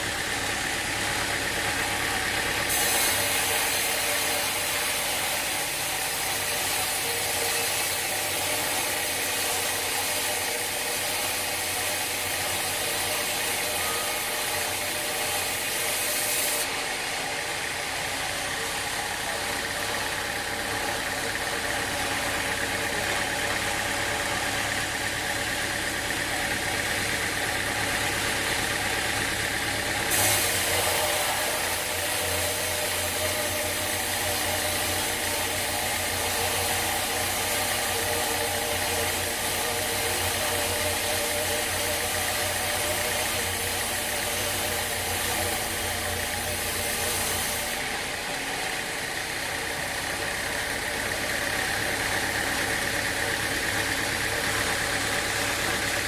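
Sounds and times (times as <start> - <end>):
sawmill machinery droning: 0.0 - 56.0.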